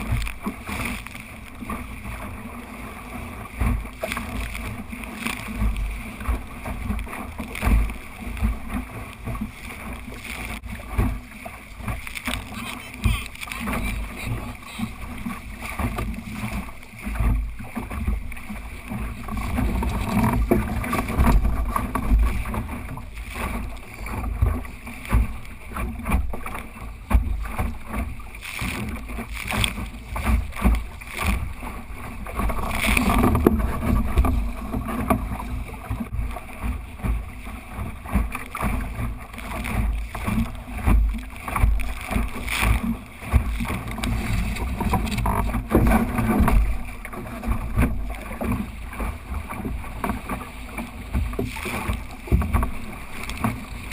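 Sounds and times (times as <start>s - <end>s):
water splashing along hull: 0.0s - 53.9s.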